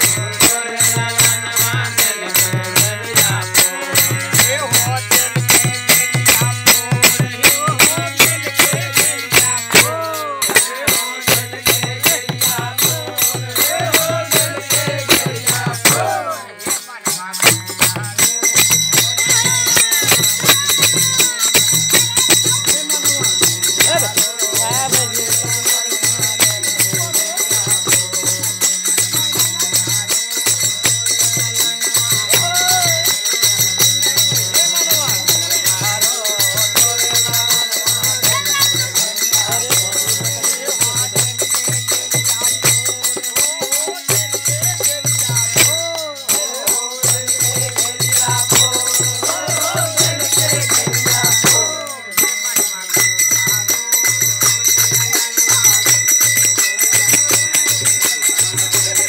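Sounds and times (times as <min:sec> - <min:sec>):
dholak drum: 0:00.0 - 0:59.0
harmonium: 0:00.0 - 0:59.0
jingling hand percussion: 0:00.0 - 0:59.0
men singing folk song: 0:00.0 - 0:59.0.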